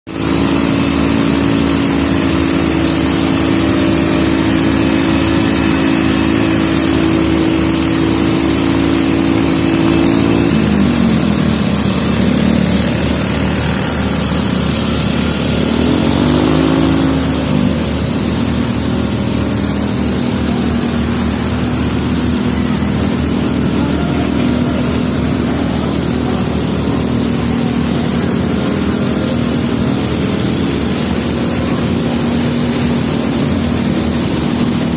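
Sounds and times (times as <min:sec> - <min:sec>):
fire truck engine running: 0:00.0 - 0:34.9
strong hiss: 0:00.1 - 0:34.9.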